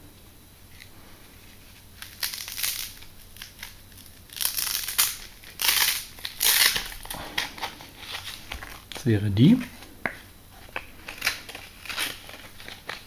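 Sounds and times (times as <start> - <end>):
plastic packaging crinkling: 0.7 - 13.0.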